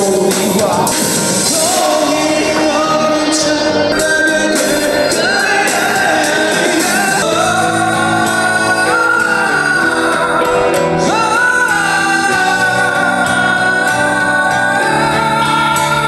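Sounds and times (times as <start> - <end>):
instrumental backing track: 0.0 - 16.0
person singing into microphone: 0.0 - 16.0.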